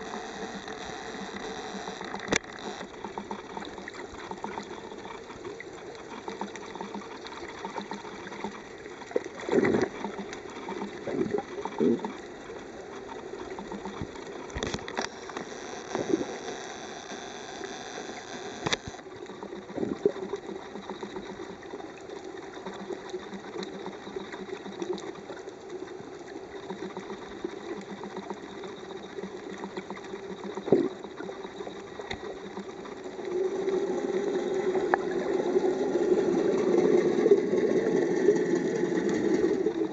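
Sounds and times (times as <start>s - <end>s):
boat engine underwater: 0.0s - 39.9s
muffled water drone: 0.0s - 39.9s.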